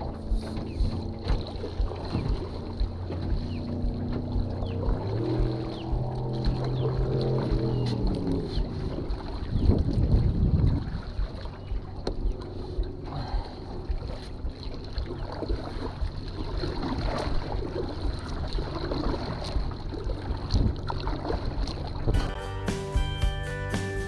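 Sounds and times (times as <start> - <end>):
wind buffeting microphone: 0.0 - 20.9
water splashing around boat: 0.0 - 24.0.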